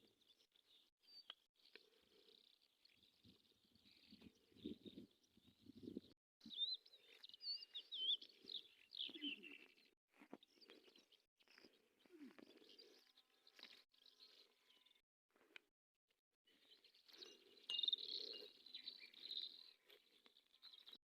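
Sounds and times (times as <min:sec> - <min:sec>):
small birds chirping: 0:00.0 - 0:15.7, 0:16.5 - 0:21.0.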